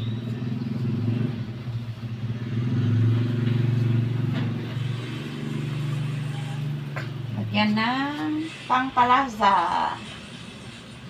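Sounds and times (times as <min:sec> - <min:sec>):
vehicle engine running: 0:00.0 - 0:09.1.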